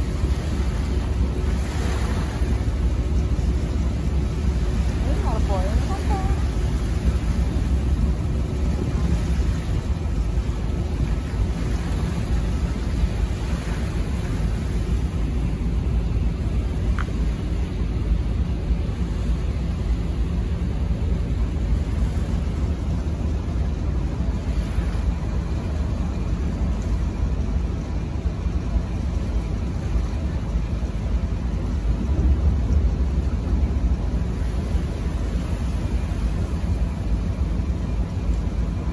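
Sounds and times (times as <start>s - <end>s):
ferry engine rumble: 0.0s - 38.9s
wind buffeting microphone: 0.0s - 38.9s.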